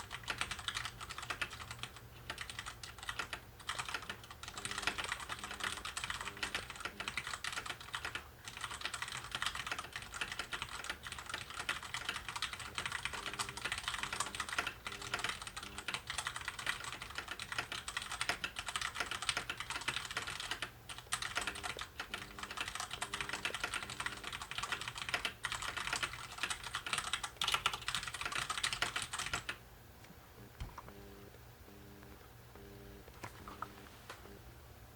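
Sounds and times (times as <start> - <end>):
mechanical keyboard typing: 0.0 - 29.6.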